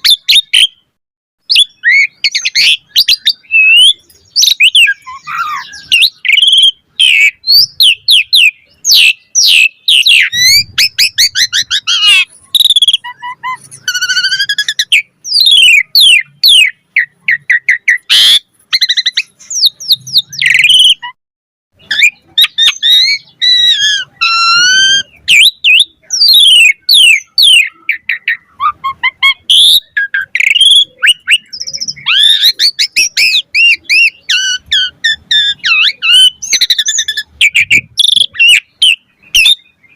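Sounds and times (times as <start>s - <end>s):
starling singing whistled song: 0.0s - 21.2s, 21.8s - 39.9s.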